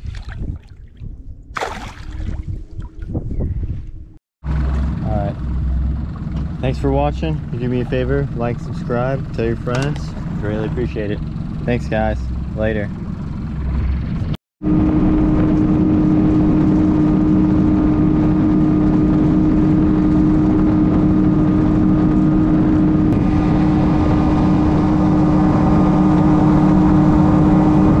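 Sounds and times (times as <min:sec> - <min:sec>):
outboard motor running: 0:04.4 - 0:28.0.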